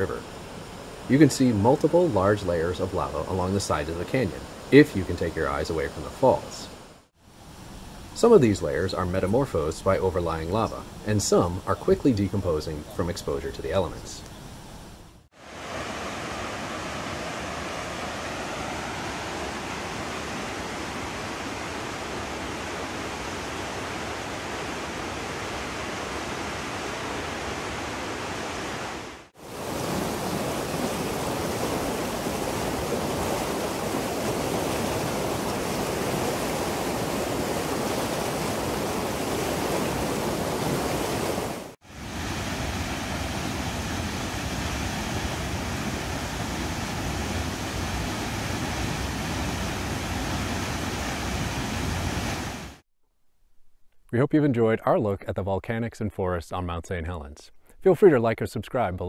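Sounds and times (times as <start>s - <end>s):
waterfall and whitewater rushing: 0.0s - 14.5s, 15.3s - 52.8s.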